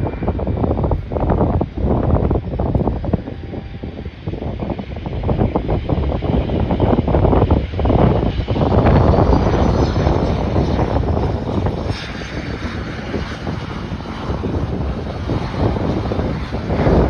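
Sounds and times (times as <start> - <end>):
airliner engines running: 0.0 - 17.0
wind buffeting microphone: 0.0 - 17.0.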